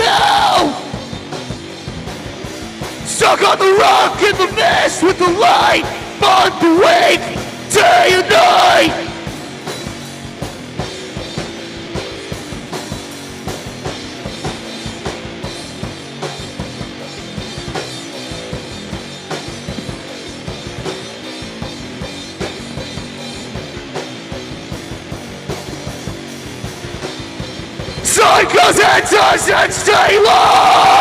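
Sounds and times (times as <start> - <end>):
drum kit steady beat: 0.0 - 31.0
rock band playing: 0.0 - 31.0.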